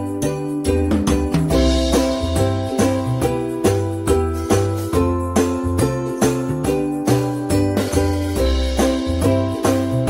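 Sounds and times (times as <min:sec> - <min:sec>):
bell-like notes over bass line: 0:00.0 - 0:10.0.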